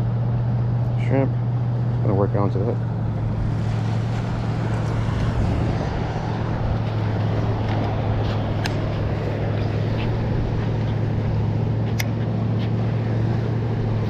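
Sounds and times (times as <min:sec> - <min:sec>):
low engine hum: 0:00.0 - 0:14.0
outdoor background noise: 0:00.0 - 0:14.0.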